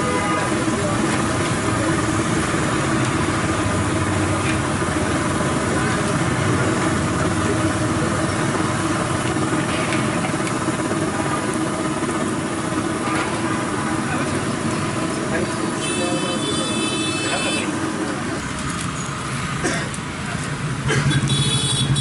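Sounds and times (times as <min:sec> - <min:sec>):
engine-like drone: 0:00.0 - 0:22.0.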